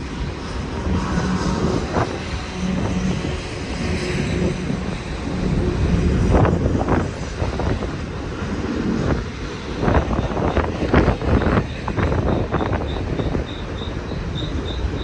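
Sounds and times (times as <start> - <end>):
freight train rumble: 0.0 - 15.0.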